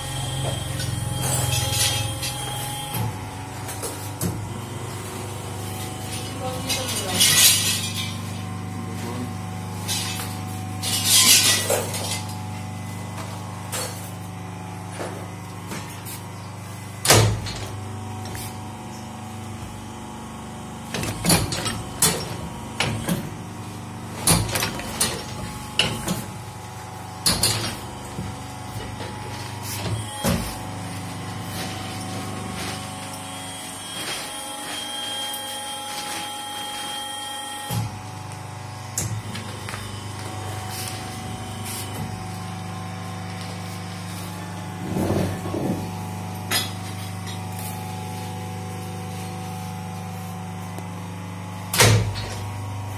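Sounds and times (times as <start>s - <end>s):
hydraulic pump hum: 0.0s - 52.9s.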